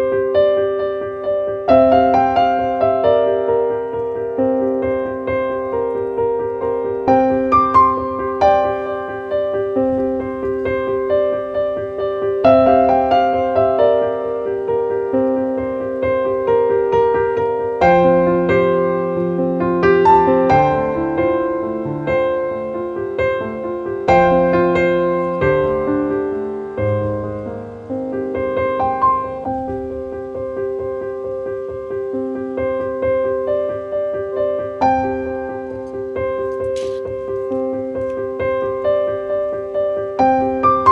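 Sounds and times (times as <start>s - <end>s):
gentle piano music: 0.0s - 40.9s.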